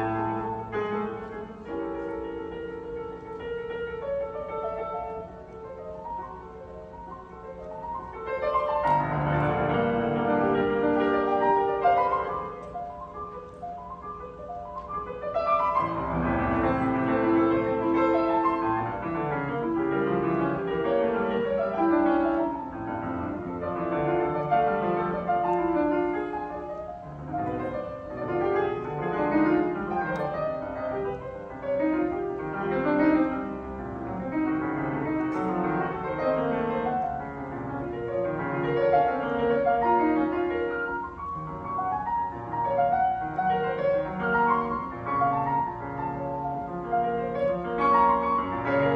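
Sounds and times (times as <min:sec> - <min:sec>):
solo piano playing fast runs: 0:00.0 - 0:48.9.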